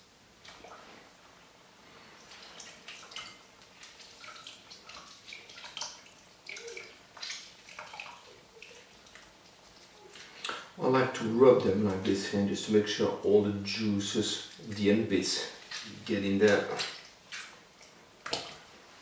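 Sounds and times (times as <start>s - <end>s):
wet squelching of fruit: 2.0s - 12.4s, 13.7s - 19.0s.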